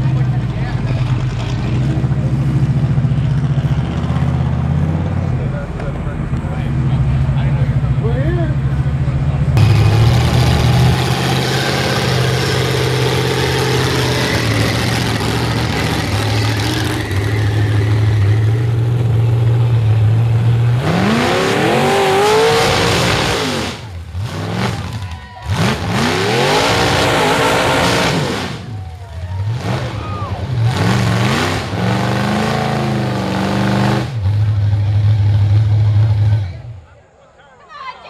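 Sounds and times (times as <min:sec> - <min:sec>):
engine revving with open headers: 0:00.0 - 0:36.8.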